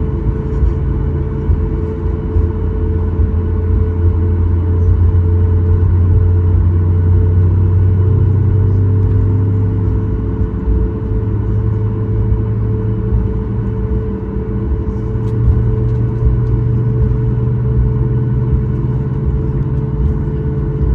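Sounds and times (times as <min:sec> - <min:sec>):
aircraft cabin engine rumble: 0:00.0 - 0:20.9.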